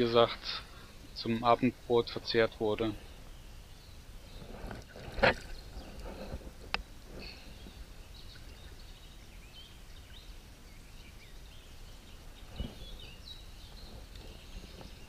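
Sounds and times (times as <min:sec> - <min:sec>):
birds chirping and trilling: 0:00.0 - 0:15.0
low outdoor background rumble: 0:00.0 - 0:15.0.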